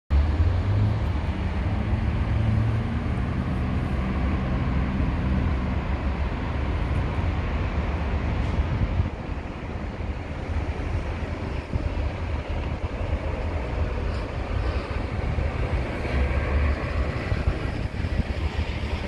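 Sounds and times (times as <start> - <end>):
road traffic rumble: 0.1 - 19.0
vehicle engine hum: 0.1 - 19.0.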